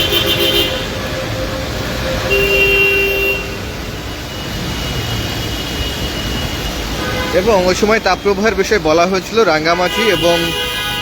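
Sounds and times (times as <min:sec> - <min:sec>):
car horn: 0:00.0 - 0:08.4, 0:09.7 - 0:11.0
road traffic: 0:00.0 - 0:11.0.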